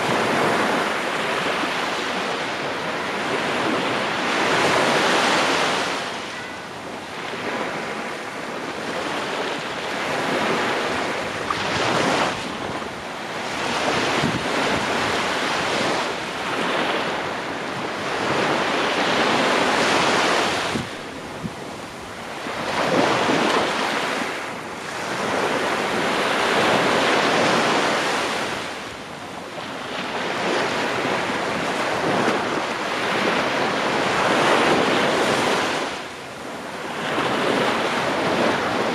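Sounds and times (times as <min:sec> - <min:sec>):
waves breaking on sandy beach: 0:00.0 - 0:38.9
wind buffeting microphone: 0:00.0 - 0:38.9.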